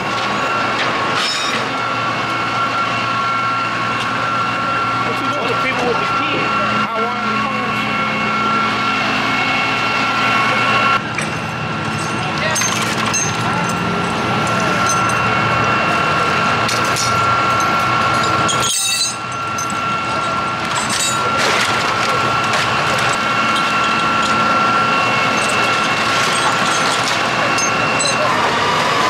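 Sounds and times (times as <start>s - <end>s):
continuous high whine: 0.0s - 29.0s
heavy vehicle machinery running: 0.0s - 29.0s.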